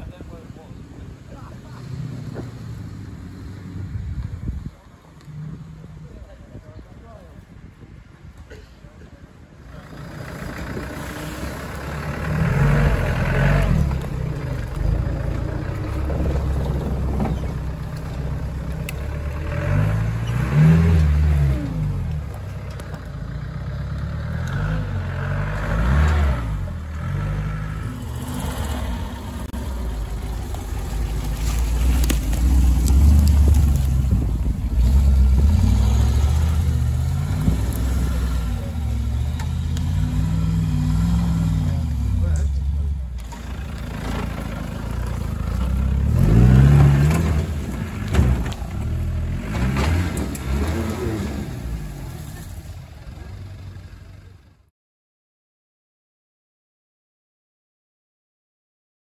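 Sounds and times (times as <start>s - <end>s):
off-road vehicle engines revving: 0.0s - 7.3s, 8.1s - 54.7s.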